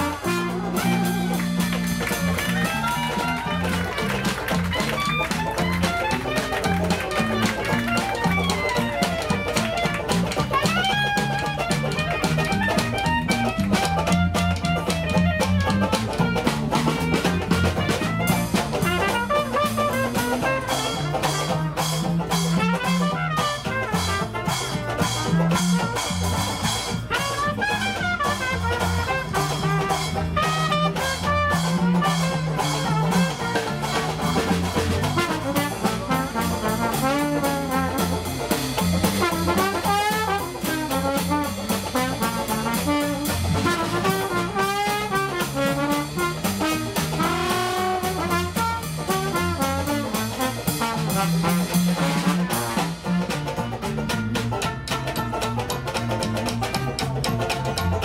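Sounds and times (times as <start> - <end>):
dixieland jazz band playing: 0.0 - 58.0.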